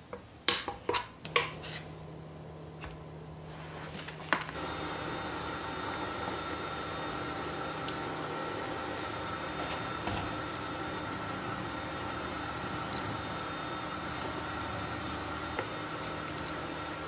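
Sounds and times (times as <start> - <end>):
cooktop electric hum and fan: 0.0 - 17.0.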